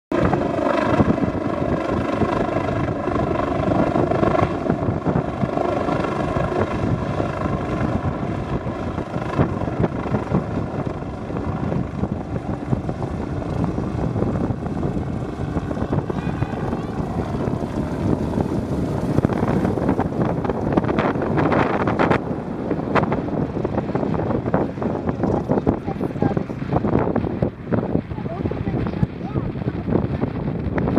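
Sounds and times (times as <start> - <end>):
helicopter rotor blades chopping: 0.1 - 30.9
helicopter turbine whine: 0.1 - 30.9.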